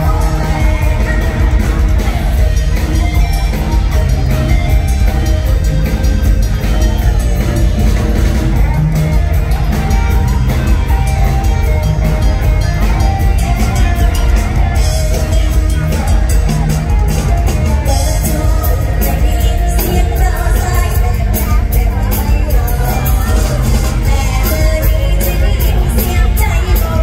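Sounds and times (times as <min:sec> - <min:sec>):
live band dance music: 0:00.0 - 0:27.0.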